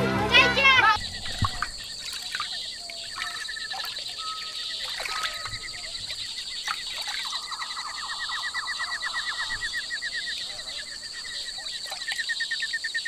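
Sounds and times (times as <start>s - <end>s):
birds whistling: 1.0s - 12.4s.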